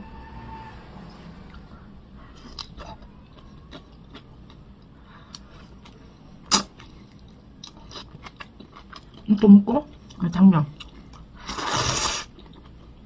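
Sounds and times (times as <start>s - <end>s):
person chewing quietly: 1.5s - 13.0s.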